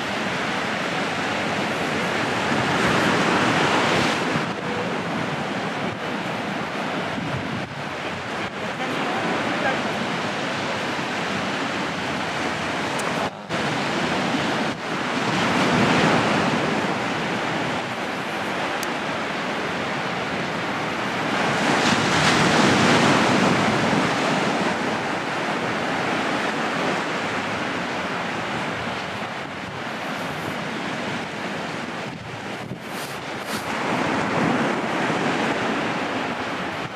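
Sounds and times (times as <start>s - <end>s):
sea waves breaking: 0.0s - 36.9s.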